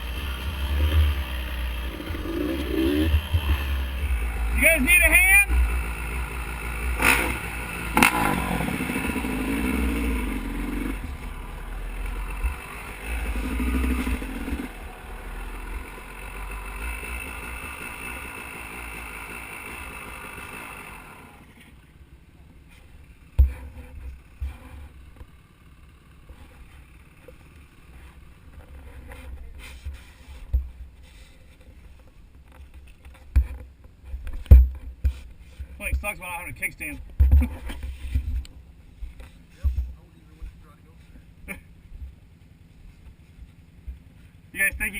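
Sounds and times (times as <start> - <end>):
dirt bike engine revving and idling: 0.0 - 44.9.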